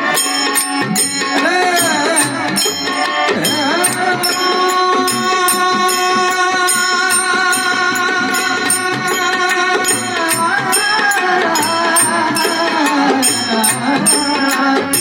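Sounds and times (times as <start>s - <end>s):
bright percussive strikes: 0.0s - 15.0s
harmonium holding notes: 0.0s - 15.0s
tabla: 0.0s - 15.0s.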